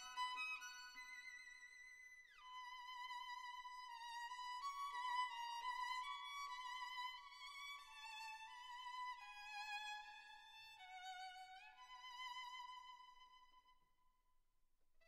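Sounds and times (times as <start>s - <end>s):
solo violin slow melody: 0.0s - 13.7s.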